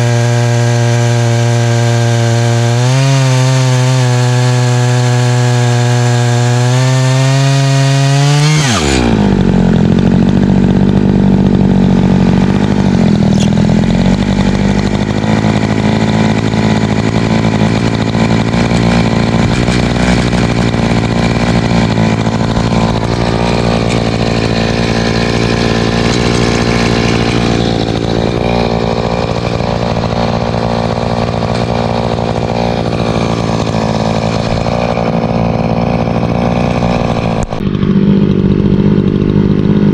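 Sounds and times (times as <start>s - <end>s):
chainsaw running and idling: 0.0s - 39.9s.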